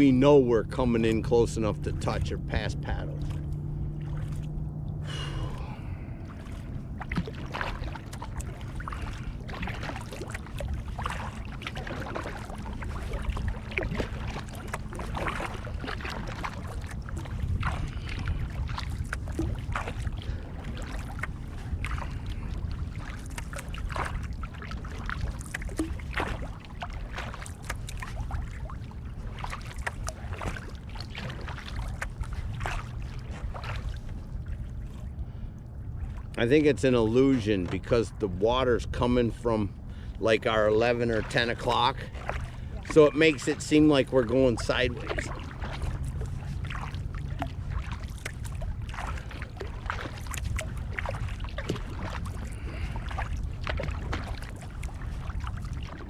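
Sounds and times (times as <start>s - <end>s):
low rumble: 0.0s - 56.0s
paddle splashing in water: 0.0s - 56.0s.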